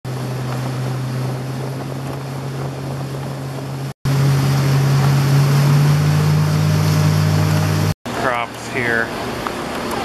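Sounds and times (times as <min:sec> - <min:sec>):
motorboat engine humming: 0:00.0 - 0:10.0
water noise: 0:00.0 - 0:10.0
wind: 0:00.0 - 0:10.0.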